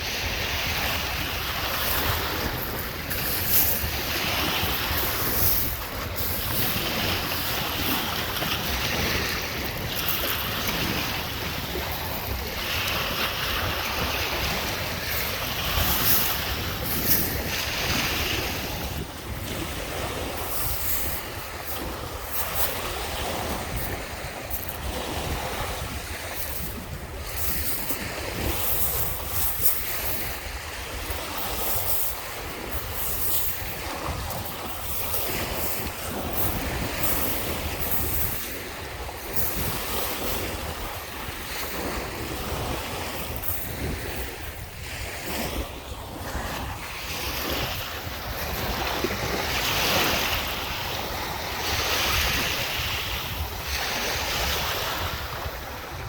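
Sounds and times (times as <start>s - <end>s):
waves washing onto beach: 0.0s - 56.0s
wind rumbling on microphone: 0.0s - 56.0s.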